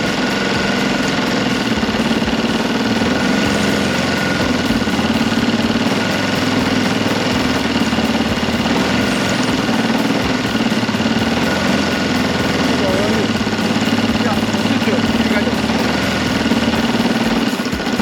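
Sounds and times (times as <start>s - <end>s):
model airplane engine running: 0.0s - 18.0s.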